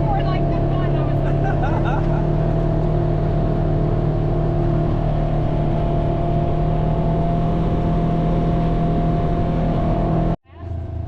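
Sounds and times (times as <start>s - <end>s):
rough ride noise: 0.0s - 11.0s
vehicle engine running: 0.0s - 11.0s.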